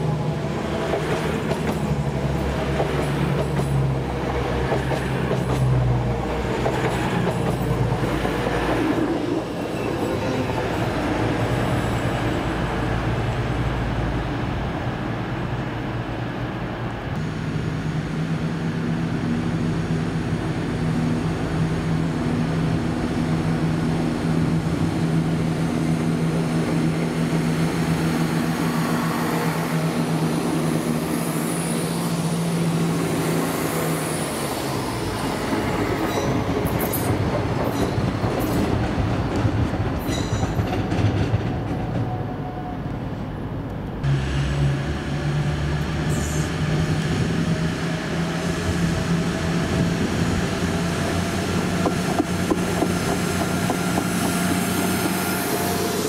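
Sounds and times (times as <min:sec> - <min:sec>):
train engine hum: 0:00.0 - 0:56.0.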